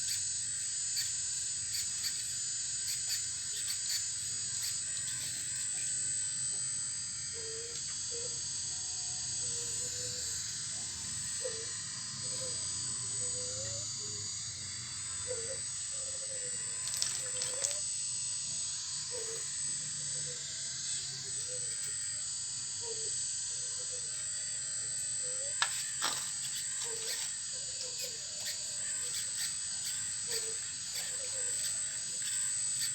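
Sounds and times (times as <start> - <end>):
small electric motors whining: 0.0 - 32.9.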